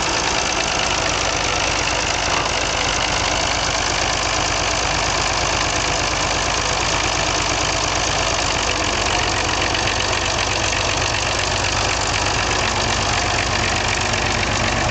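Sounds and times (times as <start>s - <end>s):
tractor diesel engine running: 0.0s - 14.9s.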